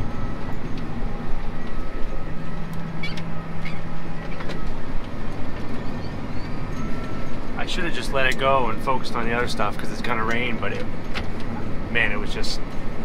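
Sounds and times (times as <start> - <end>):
steady hum: 0.0 - 13.0
tractor engine rumbling: 0.0 - 13.0.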